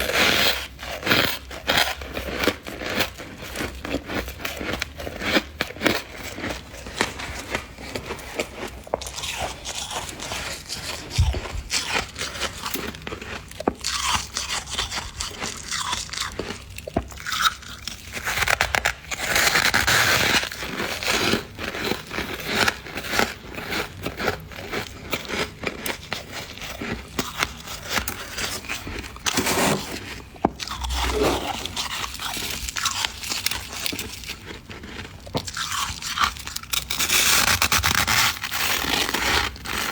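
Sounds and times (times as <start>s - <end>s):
frost crunching as chewed: 0.0s - 39.9s.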